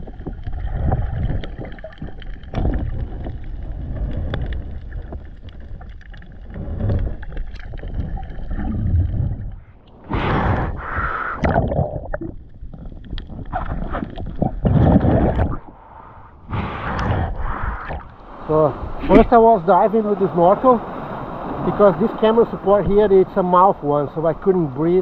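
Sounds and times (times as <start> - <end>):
underwater water sloshing and gurgling: 0.0 - 25.0
water splashing: 0.0 - 25.0.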